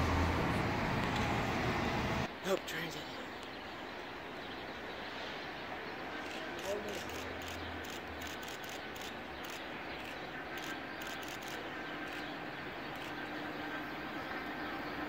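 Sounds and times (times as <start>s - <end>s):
distant train approaching: 0.0s - 15.0s.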